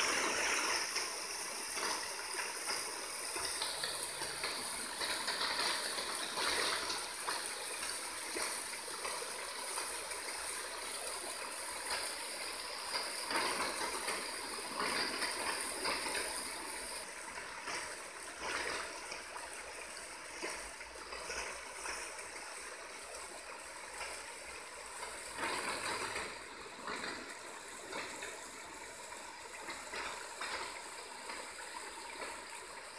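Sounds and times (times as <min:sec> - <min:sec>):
flood water rushing: 0:00.0 - 0:32.9.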